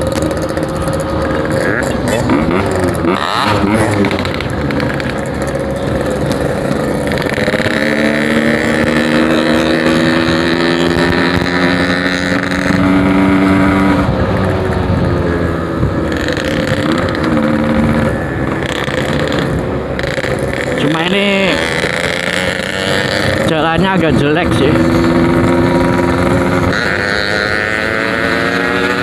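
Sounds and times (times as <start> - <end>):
two-stroke motorcycle engine revving: 0.0 - 29.0.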